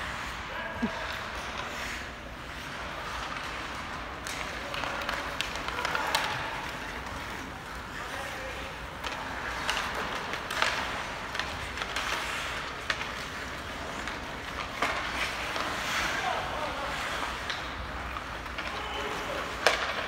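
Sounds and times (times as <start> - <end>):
hockey sticks clacking on puck: 0.0 - 20.0
skates scraping on ice: 0.0 - 20.0.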